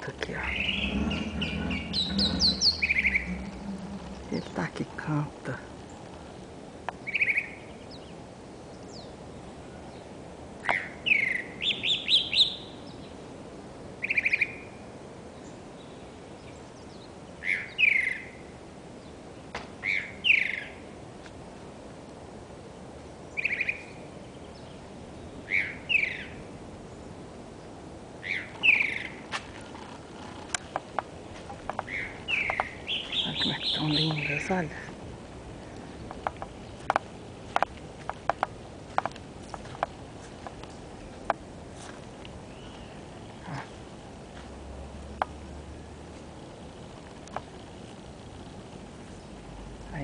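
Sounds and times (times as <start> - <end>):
songbird chirping: 0.0 - 13.2, 14.0 - 20.8, 23.2 - 50.0.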